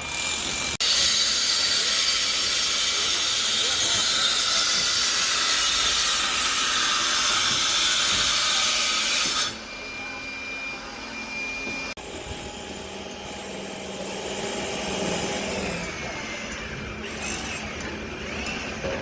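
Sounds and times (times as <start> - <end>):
construction site background: 0.0 - 19.0.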